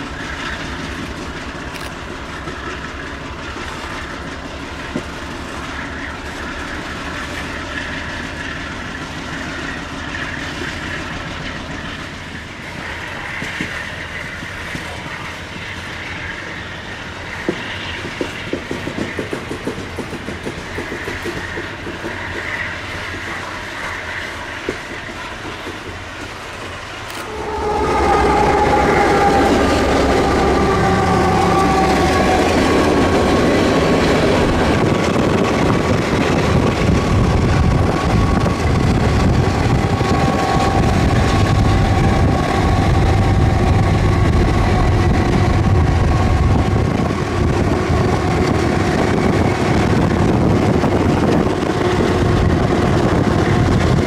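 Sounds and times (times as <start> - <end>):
wheels clacking over rail joints: 0.0 - 15.8, 17.4 - 45.8
freight train rumbling past: 0.0 - 54.0.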